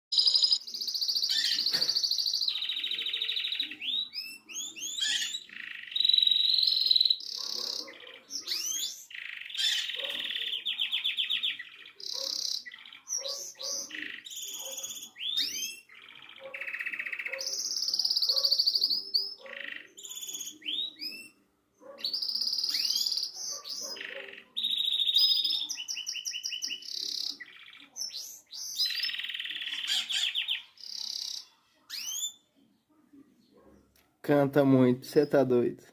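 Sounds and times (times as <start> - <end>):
canary singing trills: 0.1 - 35.7.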